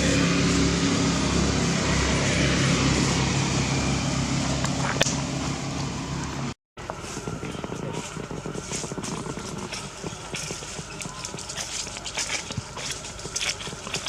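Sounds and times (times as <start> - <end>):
motor engine running: 0.0 - 14.0.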